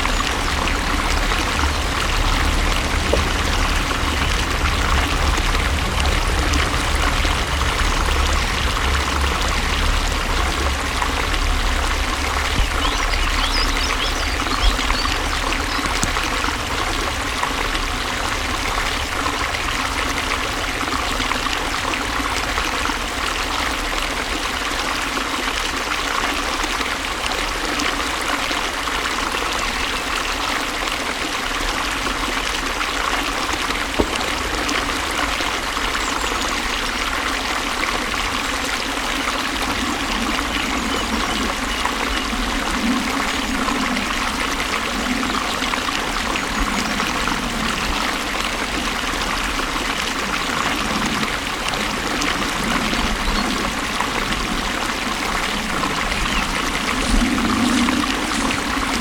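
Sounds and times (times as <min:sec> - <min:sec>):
low rumble: 0:00.0 - 0:25.9, 0:33.8 - 0:59.0
flowing water: 0:00.0 - 0:59.0.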